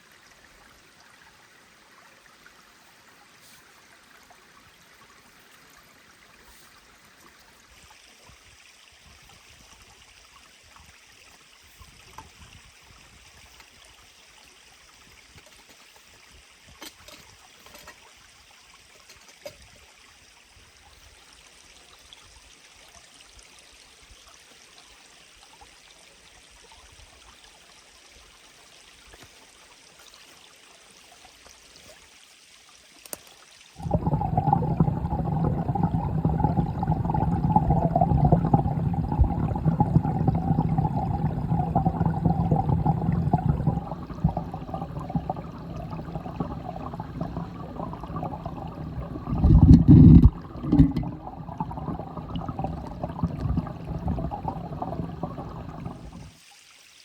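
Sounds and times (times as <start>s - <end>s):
faint mountain stream flowing: 0.0s - 57.0s.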